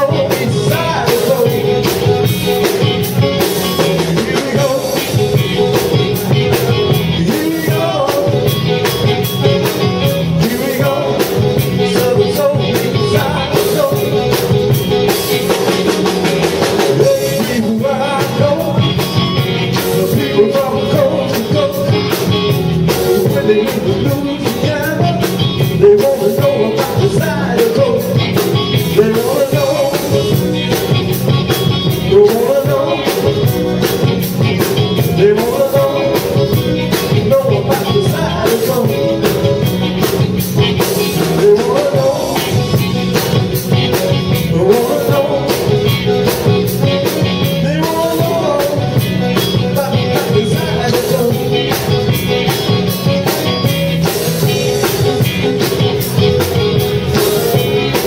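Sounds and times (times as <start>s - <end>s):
guitar: 0.0s - 58.0s
keyboards: 0.0s - 58.0s
person singing: 0.0s - 58.0s
steady drum beat: 0.0s - 58.0s.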